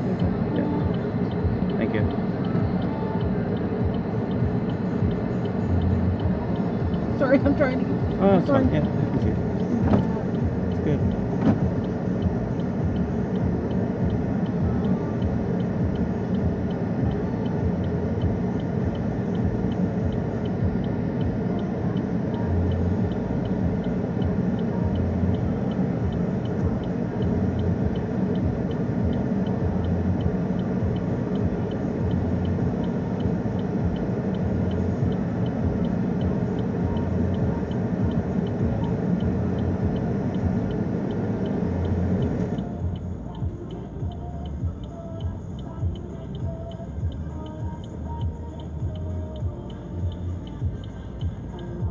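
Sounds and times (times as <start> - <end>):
light regular ticking: 0.0 - 51.9
train rumble: 0.0 - 51.9.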